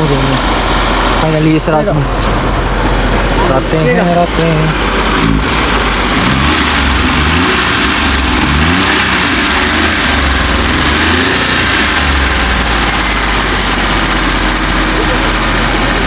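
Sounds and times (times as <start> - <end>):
small car engine revving and idling: 0.0 - 16.0.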